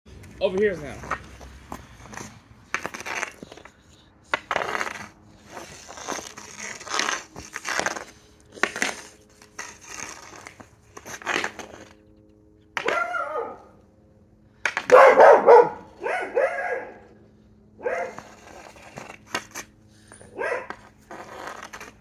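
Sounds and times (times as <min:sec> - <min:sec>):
hockey puck scraping on asphalt: 0:00.1 - 0:13.2, 0:14.5 - 0:16.2, 0:17.8 - 0:22.0.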